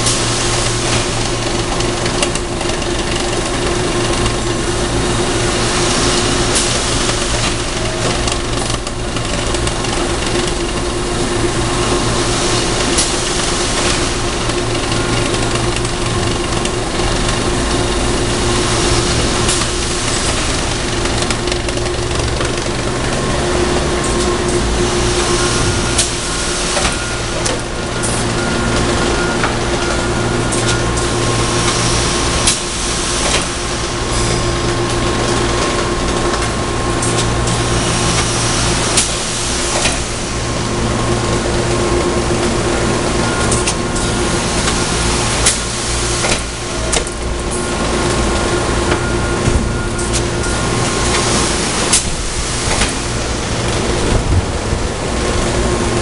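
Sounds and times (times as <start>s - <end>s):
machine drone with tones: 0.0s - 56.0s.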